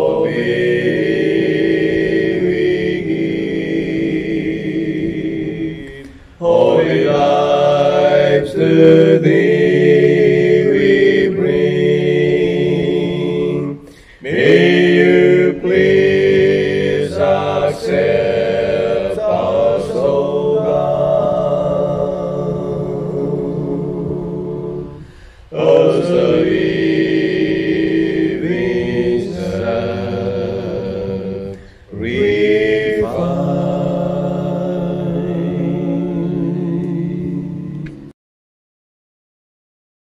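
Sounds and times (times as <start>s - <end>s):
man singing a cappella hymn: 0.0s - 38.1s.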